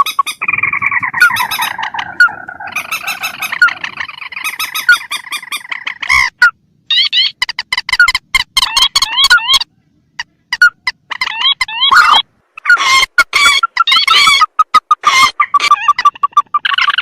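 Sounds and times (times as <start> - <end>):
swamp birds honking calls: 0.0 - 17.0.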